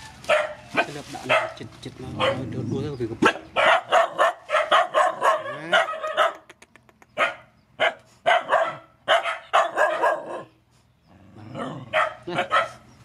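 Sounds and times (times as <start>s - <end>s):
dogs barking: 0.0s - 2.6s, 3.2s - 6.5s, 7.1s - 10.6s, 11.5s - 13.0s.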